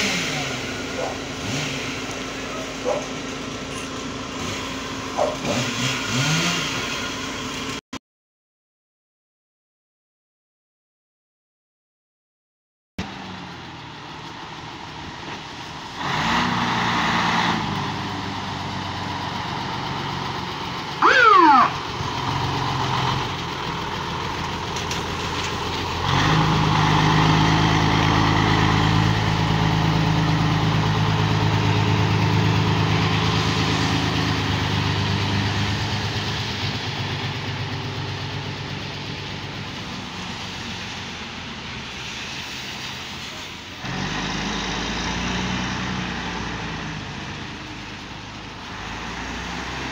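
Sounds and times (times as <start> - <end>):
fire truck engine driving past: 0.0 - 7.8, 13.0 - 49.9.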